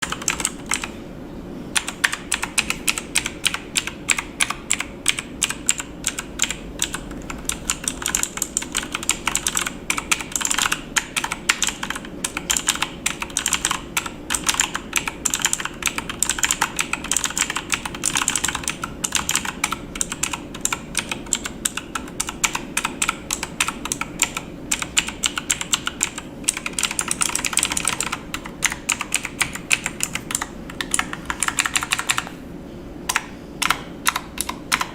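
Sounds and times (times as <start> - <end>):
keyboard typing: 0.0 - 1.0, 1.8 - 32.4, 33.1 - 34.9
faint hum: 0.0 - 34.9.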